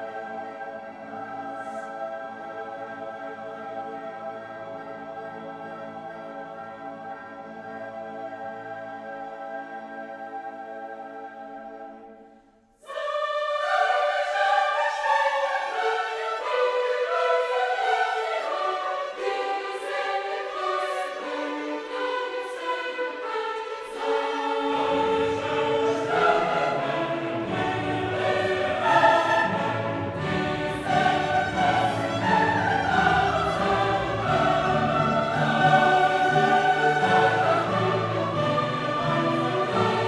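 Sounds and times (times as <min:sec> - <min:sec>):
choir singing with orchestra: 0:00.0 - 0:40.0.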